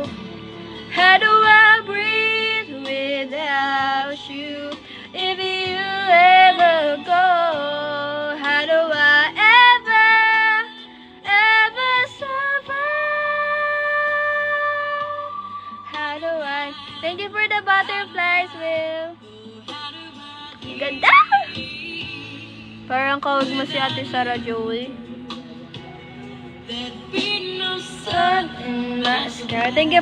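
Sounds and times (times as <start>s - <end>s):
backing track music: 0.0s - 30.0s
woman singing with vibrato: 0.9s - 25.0s, 26.7s - 30.0s.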